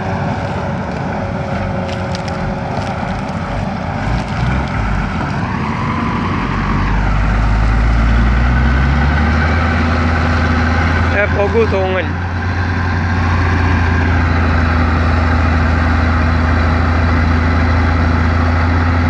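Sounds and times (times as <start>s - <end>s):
deep engine drone: 0.0s - 19.0s
engine revving: 0.0s - 19.0s
engines working hard: 0.0s - 19.0s.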